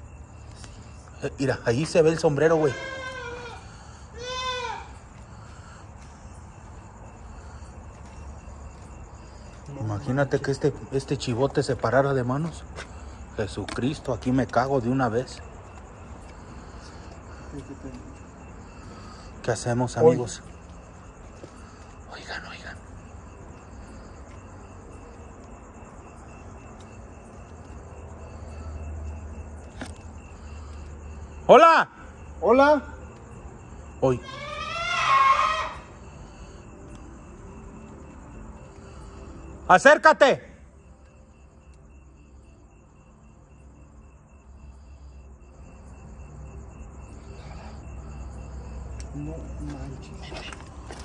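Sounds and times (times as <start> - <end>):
crickets chirping: 0.0 - 51.0.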